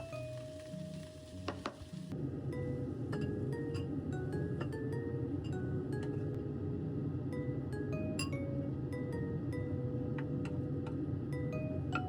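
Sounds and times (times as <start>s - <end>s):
soft piano melody: 0.0s - 12.0s.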